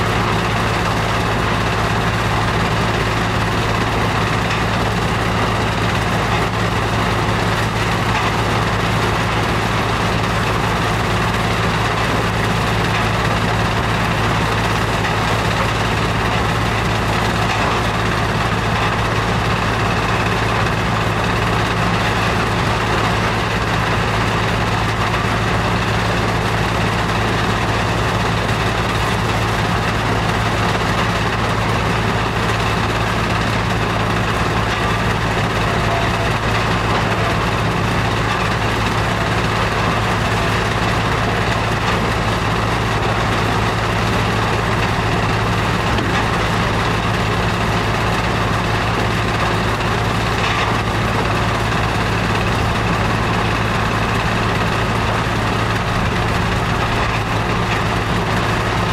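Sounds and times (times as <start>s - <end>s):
screening plant mechanical hum: 0.0s - 58.9s.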